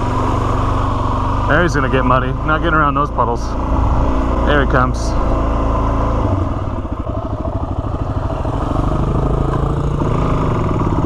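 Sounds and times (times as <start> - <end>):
motorcycle engine puttering: 0.0 - 11.0.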